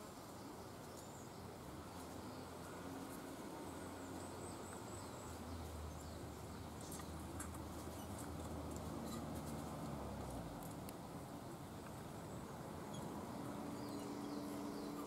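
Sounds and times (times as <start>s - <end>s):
small birds chirping and ticking: 0.0s - 11.0s, 11.6s - 15.0s.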